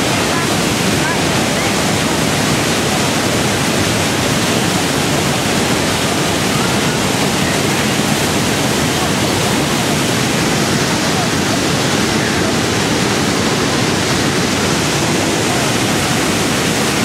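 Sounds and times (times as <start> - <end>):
waterfall rushing onto rocks: 0.0 - 17.0.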